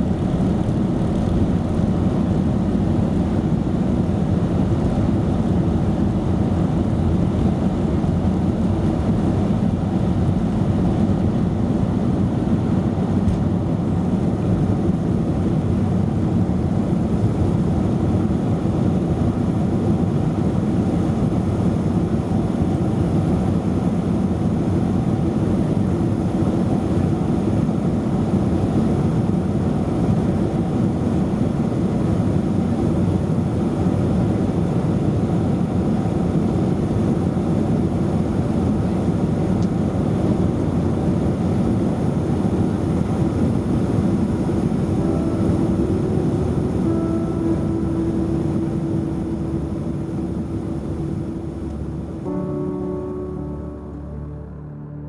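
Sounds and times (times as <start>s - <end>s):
aircraft cabin drone: 0.0s - 55.0s.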